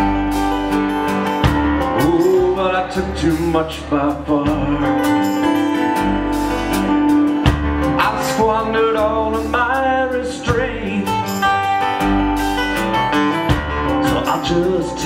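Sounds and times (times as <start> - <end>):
acoustic guitar strumming: 0.0 - 15.0
bass: 0.0 - 15.0
melodic lead line bending: 0.0 - 15.0.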